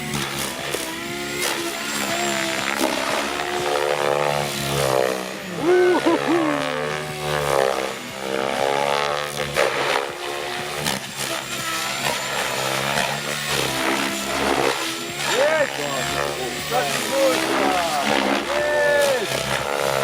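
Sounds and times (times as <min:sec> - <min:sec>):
model helicopter rotor: 0:00.0 - 0:20.0.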